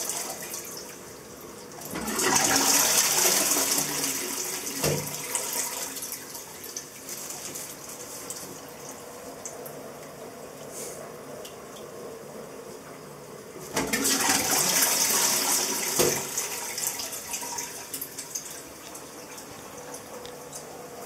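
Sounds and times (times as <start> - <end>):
water running in toilet bowl: 0.0 - 10.6, 12.7 - 21.0.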